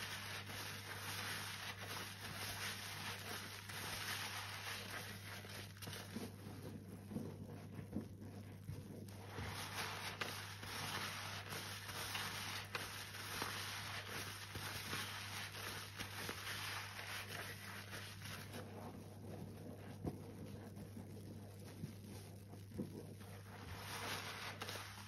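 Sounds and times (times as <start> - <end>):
sponge squelching in water: 0.0 - 25.0.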